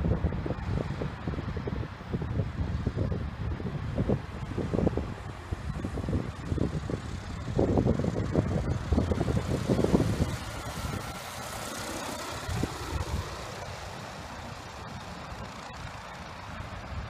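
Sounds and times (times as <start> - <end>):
small motor whine: 0.0 - 17.0
wind buffeting microphone: 0.0 - 17.0.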